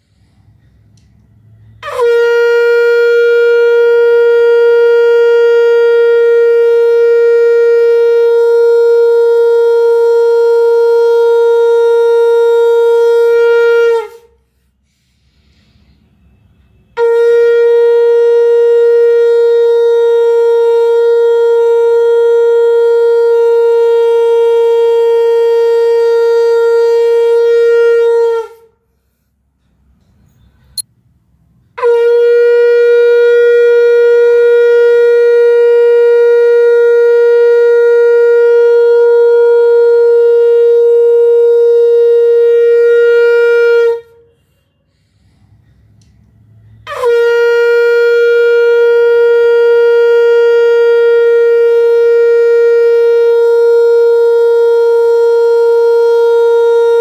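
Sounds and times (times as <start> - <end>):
conch shell blasts: 1.2 - 14.4, 16.3 - 28.7, 31.8 - 44.7, 46.2 - 57.0.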